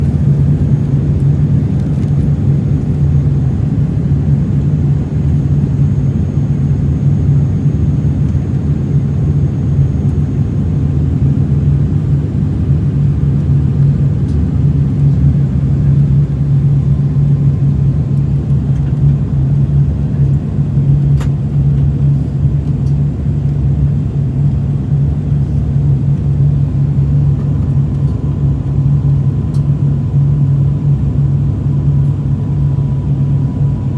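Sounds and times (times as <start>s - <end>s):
aircraft engine drone: 0.0s - 33.9s.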